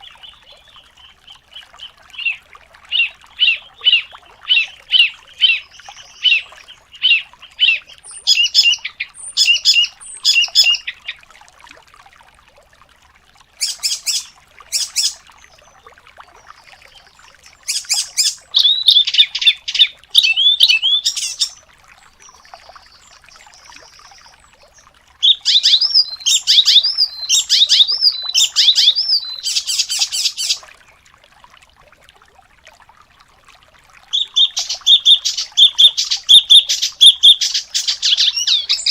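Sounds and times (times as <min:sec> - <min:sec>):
songbird chirping and trilling: 0:00.0 - 0:11.2, 0:13.6 - 0:15.8, 0:16.4 - 0:21.6, 0:22.2 - 0:30.6, 0:34.1 - 0:38.9.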